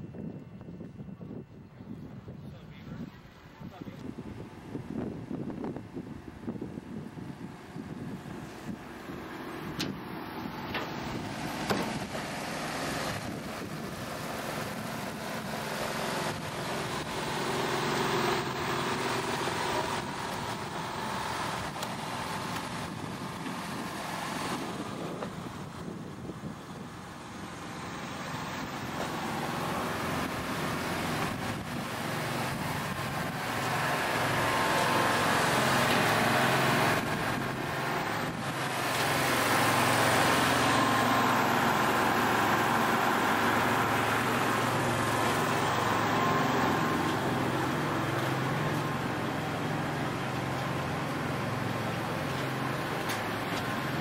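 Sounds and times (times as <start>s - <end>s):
engine running with low hum: 0.0s - 54.0s.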